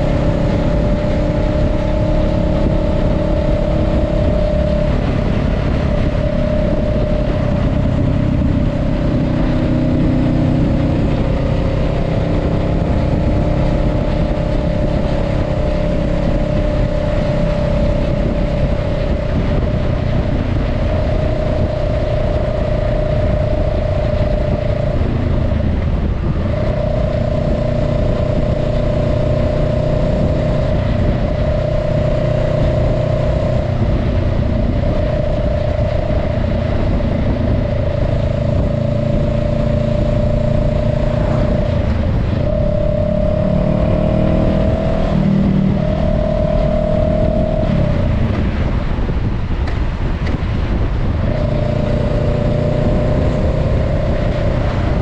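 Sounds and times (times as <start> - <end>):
motorcycle engine droning: 0.0 - 55.0
wind and road rush: 0.0 - 55.0.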